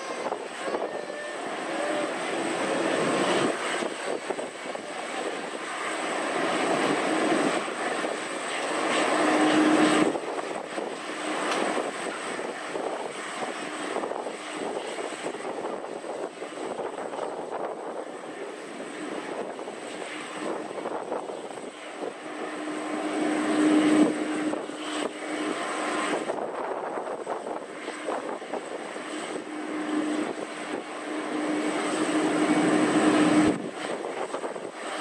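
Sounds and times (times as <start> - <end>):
jet engines rumbling with high whine: 0.0 - 35.0.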